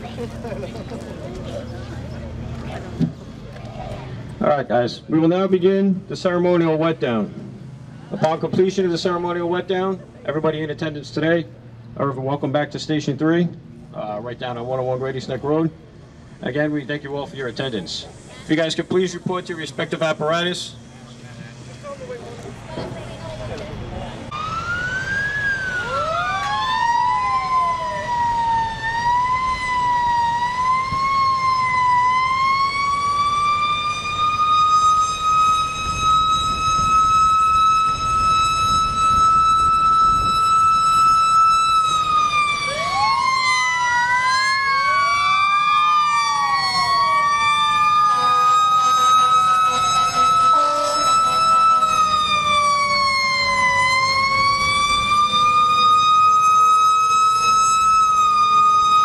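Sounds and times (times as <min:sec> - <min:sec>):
fire truck sirens wailing: 0:00.0 - 0:59.0.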